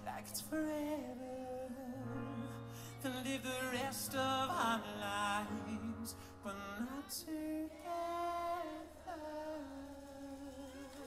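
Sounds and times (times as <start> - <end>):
man singing a ballad: 0.0 - 11.0.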